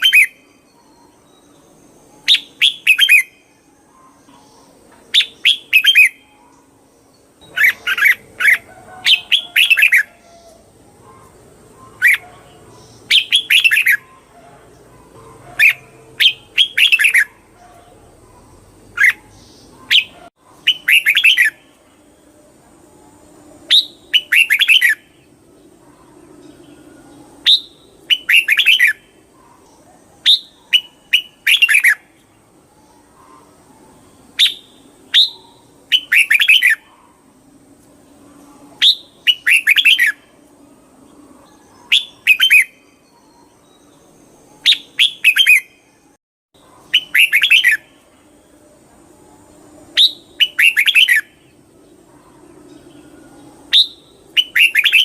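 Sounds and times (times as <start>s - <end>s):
bird singing warbled phrases: 0.0s - 55.0s.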